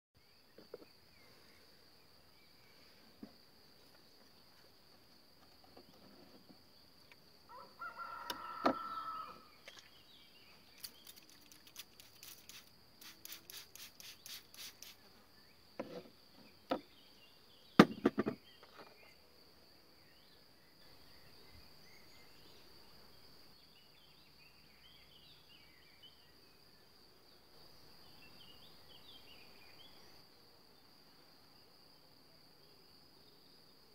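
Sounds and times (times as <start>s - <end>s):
insects chirring: 0.3s - 33.9s.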